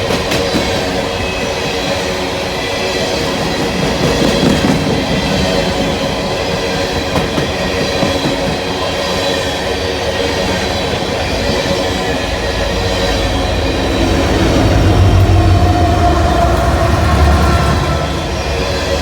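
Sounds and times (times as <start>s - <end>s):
deep train rumble: 0.0s - 19.0s
wheels clacking over rail joints: 0.0s - 19.0s.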